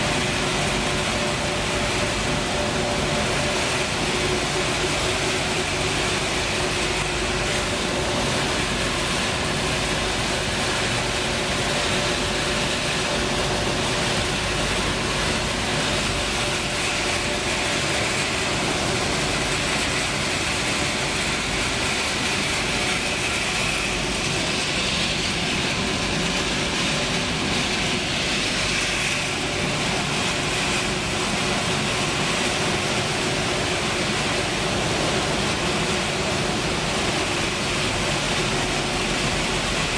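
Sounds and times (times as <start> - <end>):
production line machinery running: 0.0 - 39.9
steady hum tones: 0.0 - 39.9.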